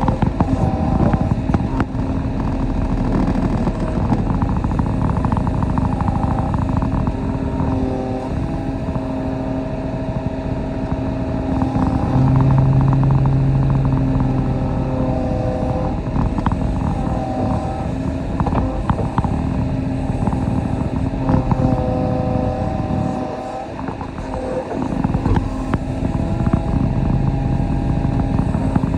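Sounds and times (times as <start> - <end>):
excavator diesel engine: 0.0 - 28.9.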